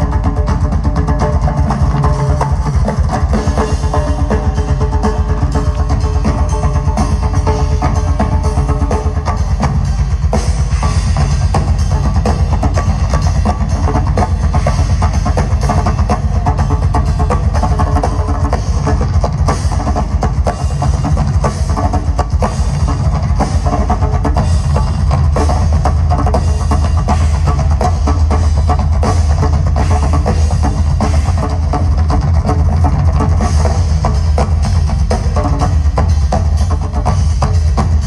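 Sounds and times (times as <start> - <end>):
live band playing drums: 0.0 - 38.0.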